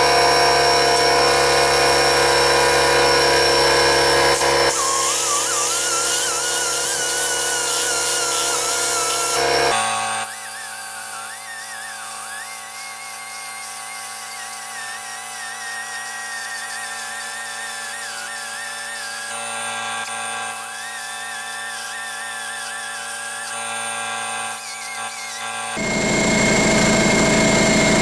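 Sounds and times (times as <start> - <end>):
die grinder whining on metal: 0.0 - 28.0.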